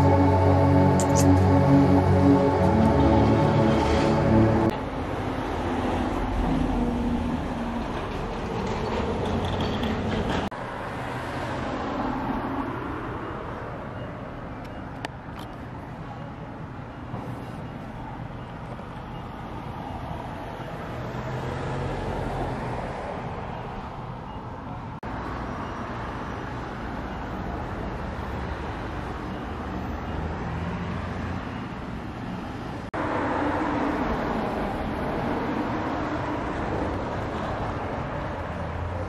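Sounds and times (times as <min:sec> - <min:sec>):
distant traffic hum: 0:00.0 - 0:39.0.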